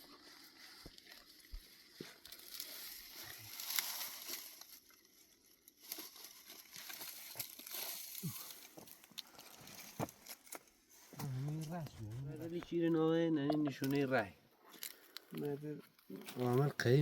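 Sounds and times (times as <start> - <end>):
faint rustling and crinkling: 0.0 - 17.0.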